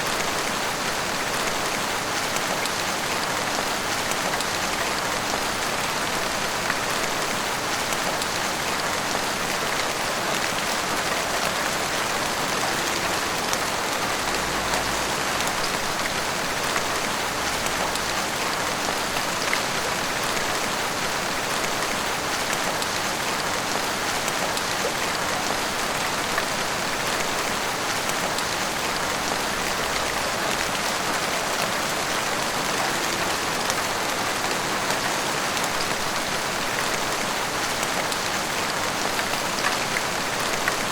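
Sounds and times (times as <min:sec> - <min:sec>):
heavy rain on rooftops: 0:00.0 - 0:40.9.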